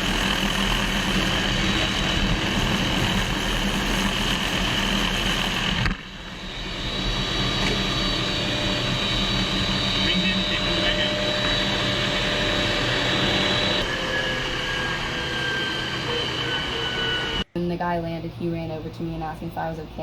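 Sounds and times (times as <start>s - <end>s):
helicopter engine and rotor: 0.0s - 17.5s.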